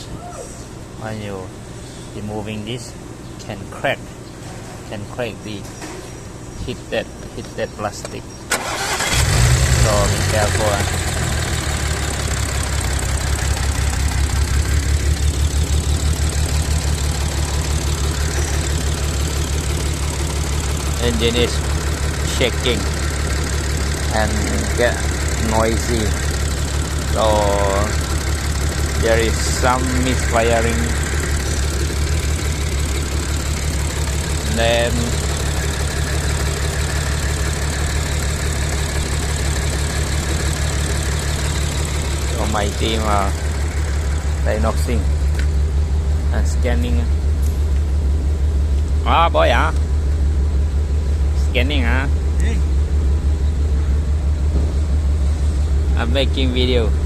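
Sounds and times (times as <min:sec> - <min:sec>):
car engine idling roughly: 0:08.5 - 0:57.0.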